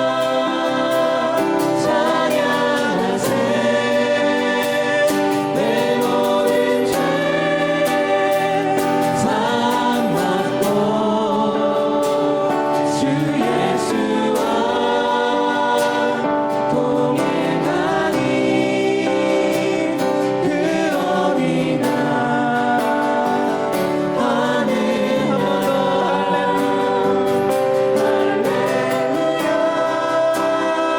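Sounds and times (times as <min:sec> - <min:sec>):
group singing a hymn: 0:00.0 - 0:30.9
steady accompaniment: 0:00.0 - 0:30.9.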